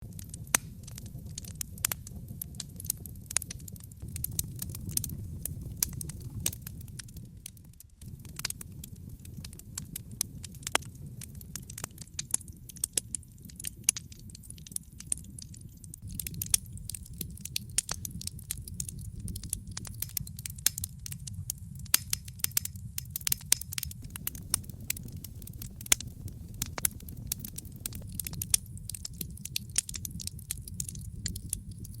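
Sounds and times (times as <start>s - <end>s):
fireplace fire crackling: 0.0s - 32.0s
sharp pops from fire: 0.0s - 32.0s.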